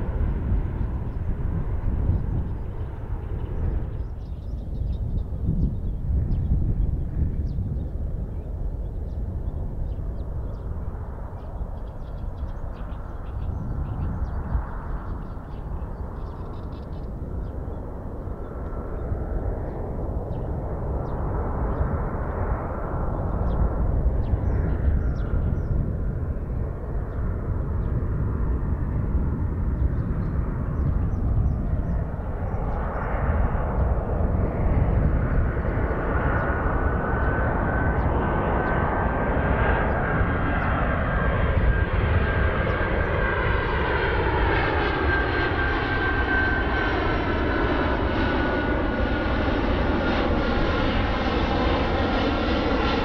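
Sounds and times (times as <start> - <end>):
jet engines roaring overhead: 0.0 - 53.0.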